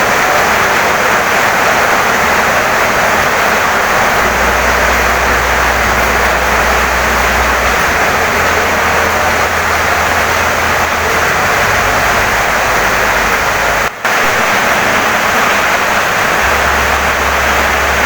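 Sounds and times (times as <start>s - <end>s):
heavy rain on a wooden house: 0.0s - 18.0s.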